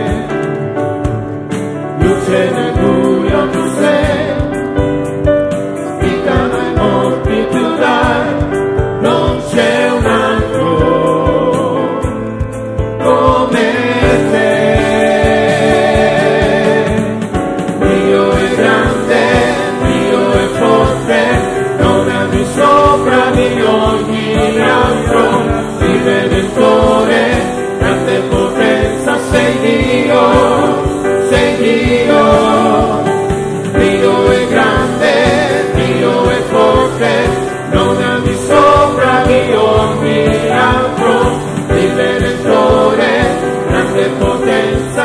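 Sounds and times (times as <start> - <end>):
man singing lead: 0.0 - 0.6, 1.9 - 4.8, 5.9 - 12.4, 13.0 - 45.0
backing voices singing: 0.0 - 0.7, 1.5 - 45.0
band with steady beat: 0.0 - 45.0.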